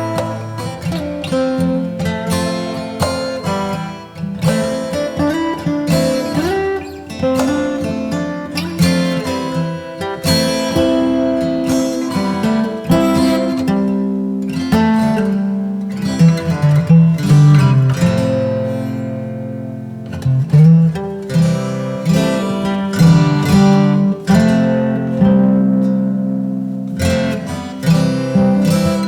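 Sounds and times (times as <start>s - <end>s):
plucked acoustic guitar: 0.0s - 29.0s.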